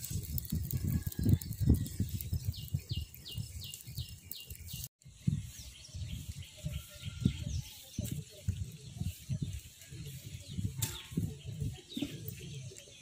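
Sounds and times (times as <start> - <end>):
open wood fire rushing: 0.0 - 13.0.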